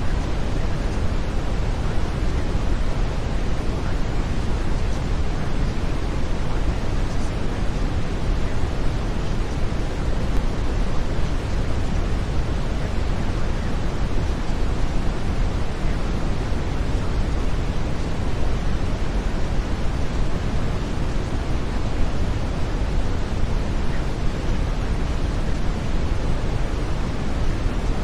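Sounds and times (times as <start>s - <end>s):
brown noise: 0.0s - 28.0s.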